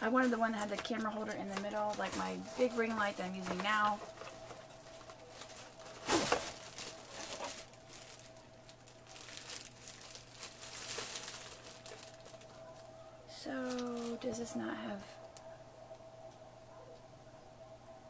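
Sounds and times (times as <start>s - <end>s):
packaging crinkling and rustling: 0.0s - 15.5s.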